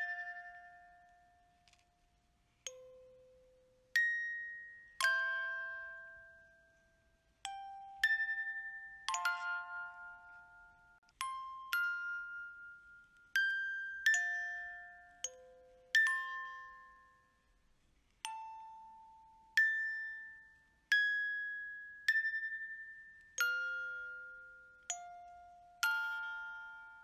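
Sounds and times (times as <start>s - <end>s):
glockenspiel chime notes: 0.0s - 17.6s, 18.2s - 27.0s.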